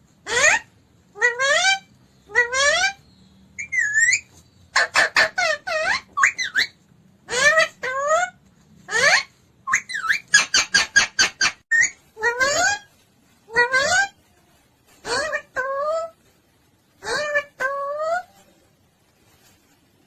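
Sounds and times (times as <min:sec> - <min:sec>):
parrot calling and chattering: 0:00.2 - 0:14.3, 0:14.9 - 0:16.3, 0:17.0 - 0:18.5.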